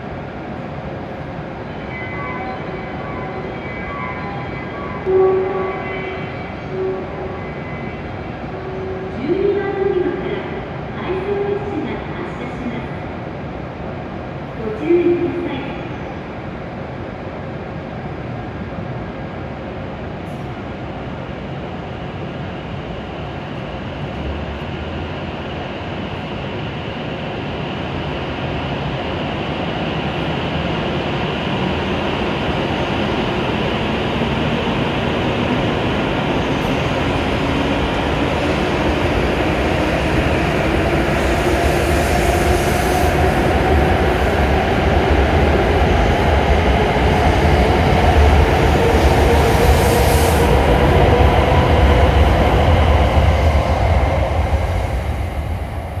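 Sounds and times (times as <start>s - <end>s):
train wheel and running noise: 0.0s - 56.0s.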